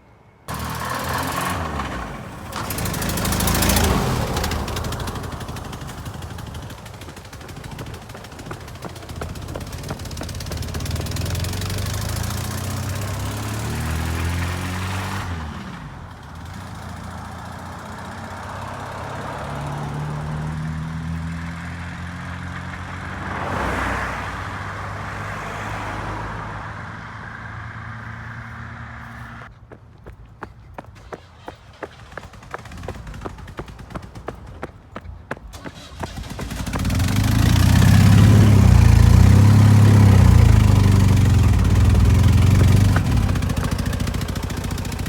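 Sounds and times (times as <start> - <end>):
pickup truck engine revving: 0.5 - 29.5, 35.5 - 45.0.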